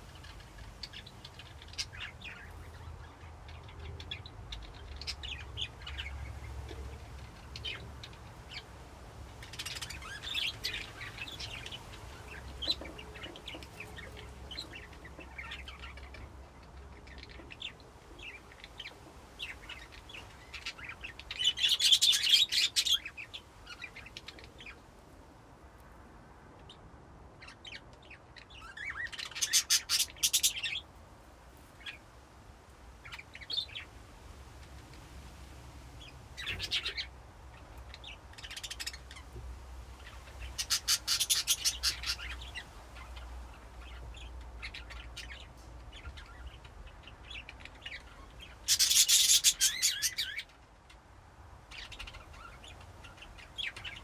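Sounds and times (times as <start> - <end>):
budgerigars chirping and chattering: 0.0 - 24.8, 27.4 - 30.9, 36.0 - 50.6, 51.7 - 54.0.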